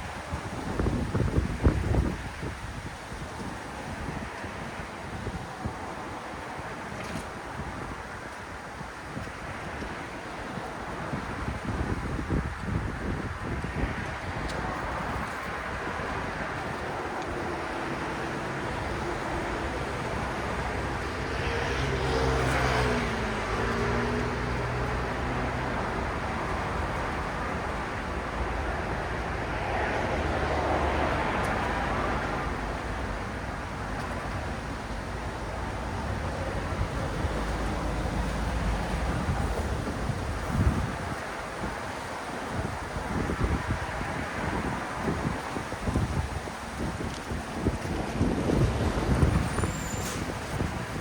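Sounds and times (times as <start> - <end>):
road traffic noise: 0.0 - 51.0
vehicles passing loudly: 0.0 - 51.0.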